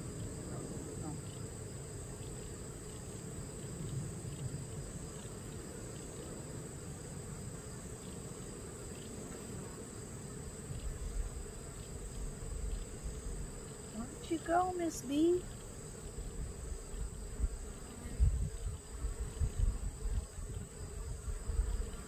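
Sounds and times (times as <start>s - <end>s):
bees humming: 0.0s - 22.0s.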